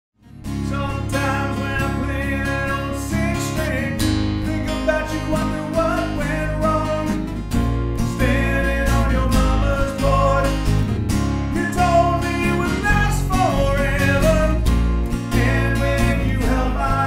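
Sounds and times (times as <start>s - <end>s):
acoustic guitars strumming: 0.2s - 17.0s
man singing: 0.5s - 7.4s, 8.1s - 10.8s, 11.5s - 17.0s.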